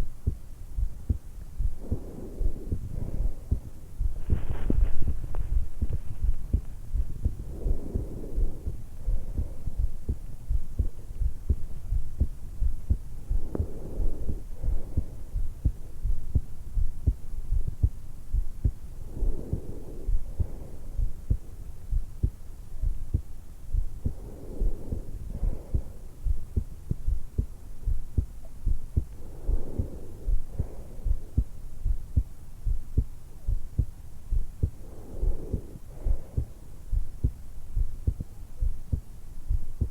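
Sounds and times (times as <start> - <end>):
heartbeat thuds: 0.0 - 39.9
breathing in and out: 1.6 - 17.7, 18.3 - 32.3, 33.8 - 38.2.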